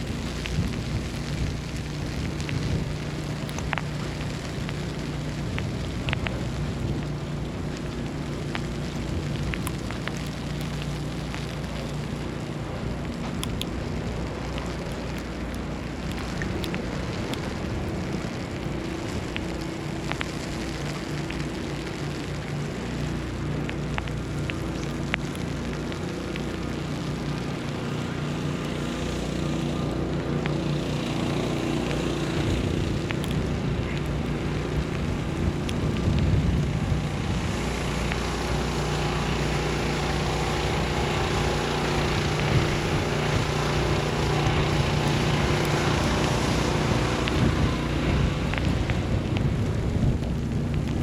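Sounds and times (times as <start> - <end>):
city street noise: 0.0 - 51.0
low motor hum: 0.0 - 51.0.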